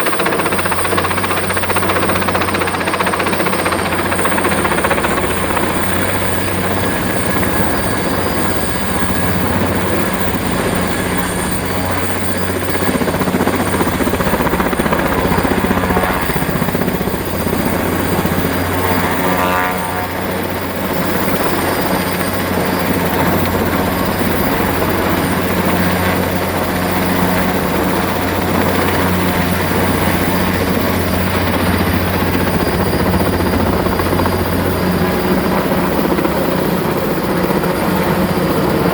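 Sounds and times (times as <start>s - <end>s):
helicopter running loud: 0.0s - 38.9s
high turbine whine: 0.0s - 38.9s.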